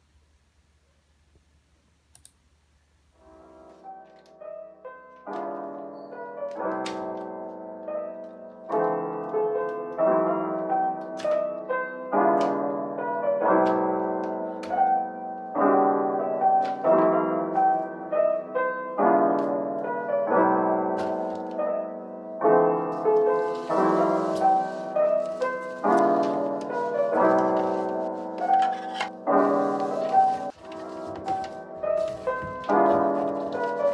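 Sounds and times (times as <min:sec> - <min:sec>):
gentle piano tune: 0:03.2 - 0:33.9.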